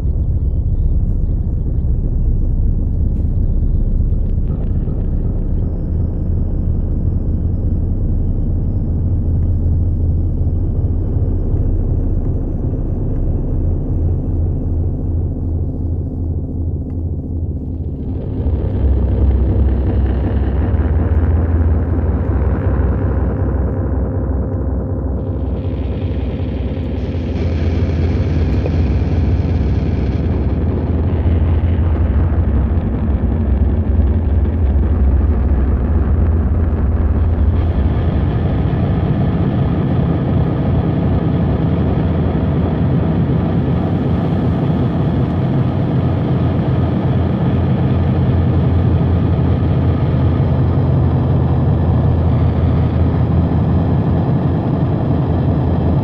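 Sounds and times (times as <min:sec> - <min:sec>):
heavy low rumble: 0:00.0 - 0:56.0
higher droning hum: 0:00.0 - 0:56.0
layered humming tones: 0:00.0 - 0:56.0.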